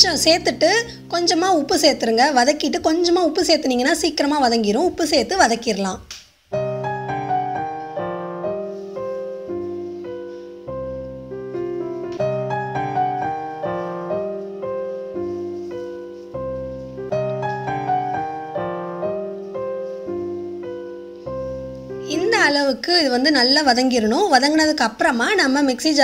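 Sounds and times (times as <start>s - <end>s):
piano music: 0.0s - 3.6s, 6.5s - 24.0s.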